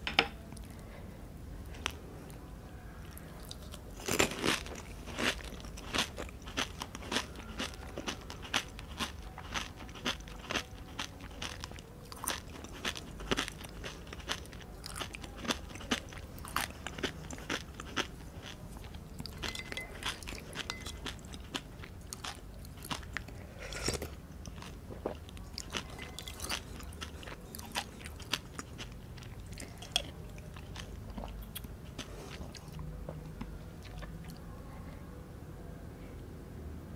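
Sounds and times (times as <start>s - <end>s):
chewing crisp food: 3.0s - 34.5s.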